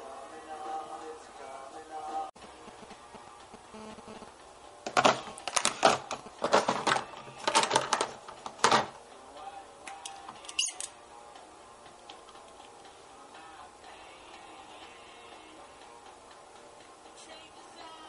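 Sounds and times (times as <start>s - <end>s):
faint music: 0.0s - 18.0s.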